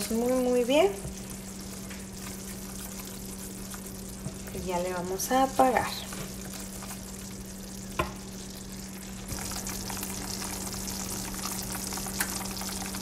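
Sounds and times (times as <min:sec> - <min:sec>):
caramel bubbling and sizzling: 0:00.0 - 0:13.0
steady low hum: 0:00.0 - 0:13.0.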